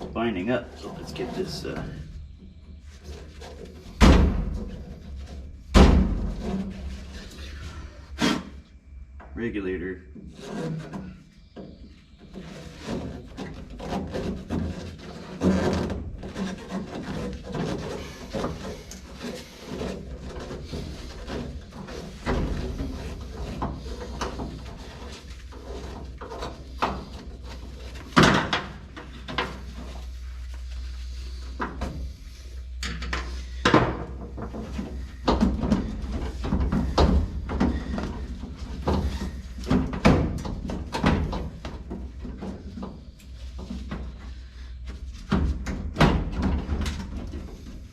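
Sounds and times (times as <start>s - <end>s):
metal clunks scrapes and rattles: 0.0s - 8.6s, 10.2s - 47.9s.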